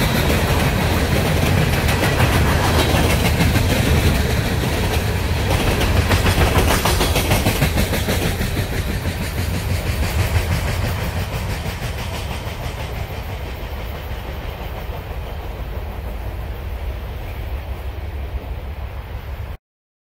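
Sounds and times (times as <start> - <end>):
train wheels rolling on rails: 0.0 - 19.6.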